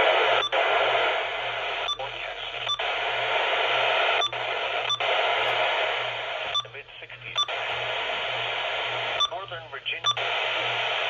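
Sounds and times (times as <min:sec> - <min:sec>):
radio static hissing: 0:00.0 - 0:11.0.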